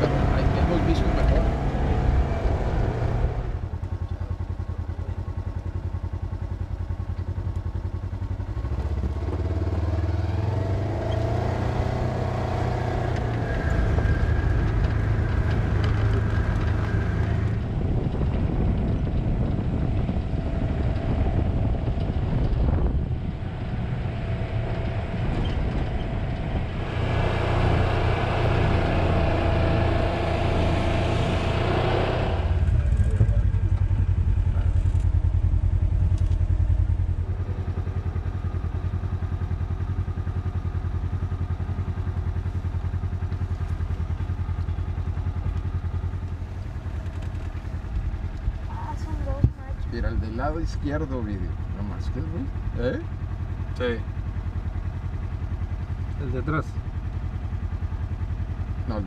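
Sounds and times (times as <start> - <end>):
tyre and road noise: 0.0 - 59.0
utility vehicle engine running: 0.0 - 59.0.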